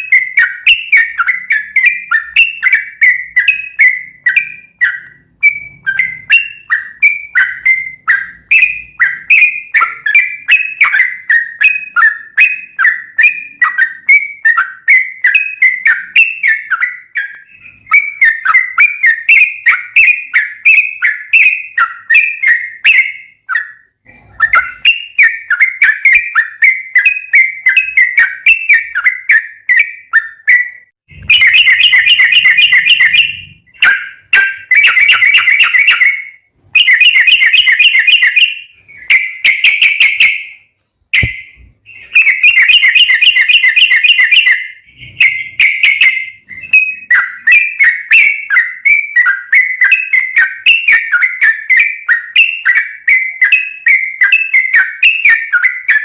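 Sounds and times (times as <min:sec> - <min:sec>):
bird chirping and chattering: 0:00.0 - 0:56.0.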